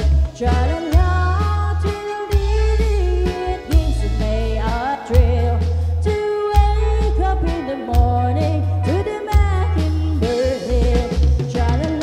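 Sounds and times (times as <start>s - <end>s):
electric bass low notes: 0.0s - 12.0s
live band playing a waltz: 0.0s - 12.0s.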